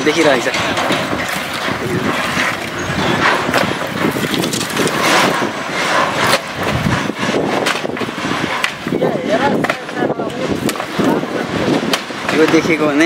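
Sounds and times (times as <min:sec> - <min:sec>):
firewood knocking and clattering: 0:00.0 - 0:13.0
steady background noise: 0:00.0 - 0:13.0.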